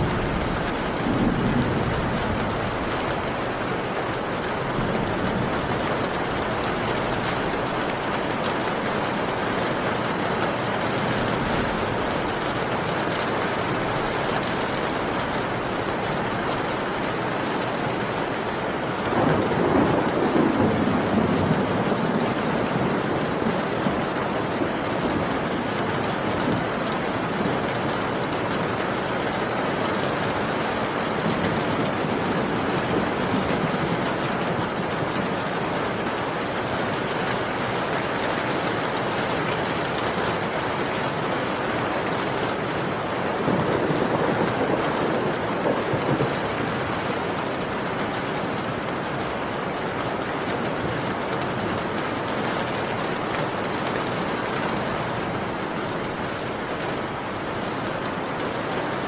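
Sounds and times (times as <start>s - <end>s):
thunder rumbling: 0.0s - 17.2s, 17.8s - 36.3s, 38.2s - 59.0s
steady rain falling: 0.0s - 59.0s.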